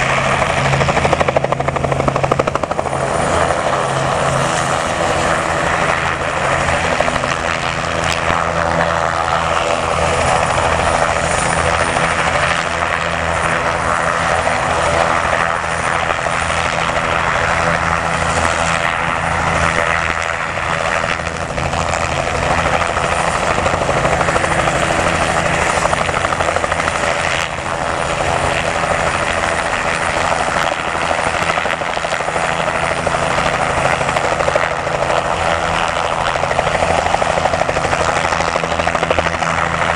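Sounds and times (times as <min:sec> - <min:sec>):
helicopters flying low: 0:00.0 - 0:39.9.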